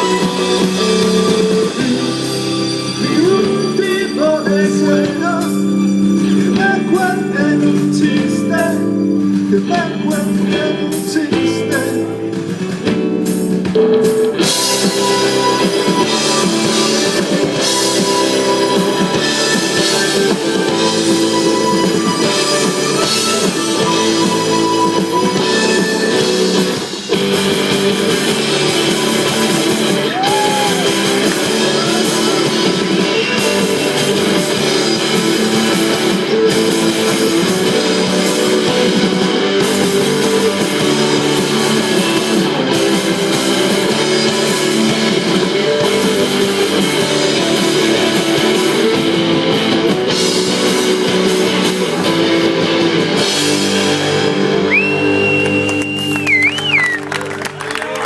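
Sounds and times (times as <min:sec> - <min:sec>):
drum kit: 0:00.0 - 0:58.0
loud electric guitars: 0:00.0 - 0:58.0.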